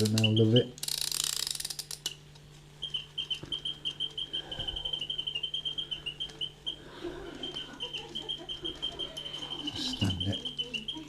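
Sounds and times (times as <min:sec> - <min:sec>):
mechanical bird chirping: 0:00.0 - 0:11.0.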